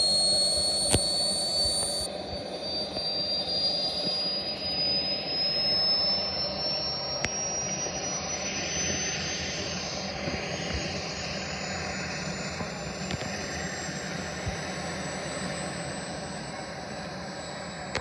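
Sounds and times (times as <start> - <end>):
model jet turbine running: 0.0 - 18.0.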